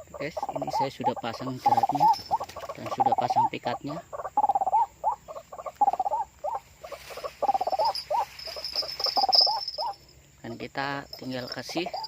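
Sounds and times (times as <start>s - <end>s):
waterhen croaking calls: 0.0s - 10.0s
faint high insect buzz: 0.0s - 12.0s.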